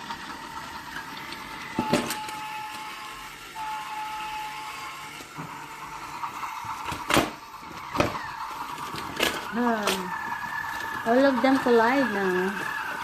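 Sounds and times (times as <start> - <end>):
toy train motor whine: 0.0 - 13.0.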